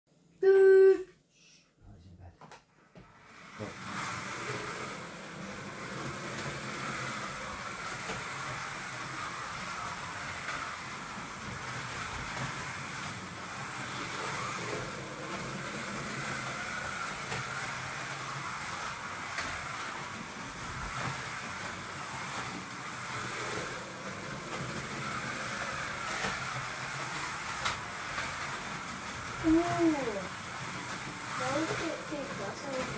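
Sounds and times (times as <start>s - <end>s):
slot car motors whirring: 3.2s - 32.9s.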